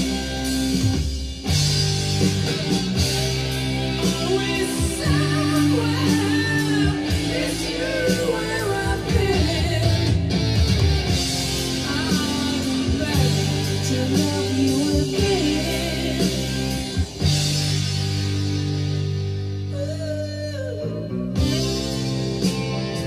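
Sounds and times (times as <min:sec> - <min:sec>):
song with singing and guitar: 0:00.0 - 0:23.0.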